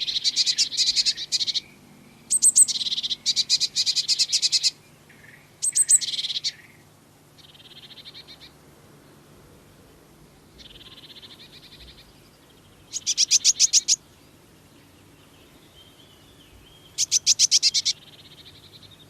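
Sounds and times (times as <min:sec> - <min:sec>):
birds giving rasping chirps: 0:00.0 - 0:08.6, 0:10.5 - 0:19.0.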